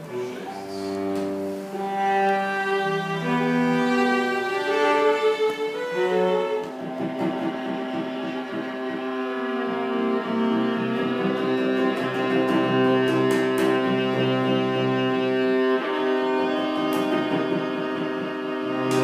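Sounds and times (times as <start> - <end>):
bowed strings holding long notes: 0.0 - 19.0.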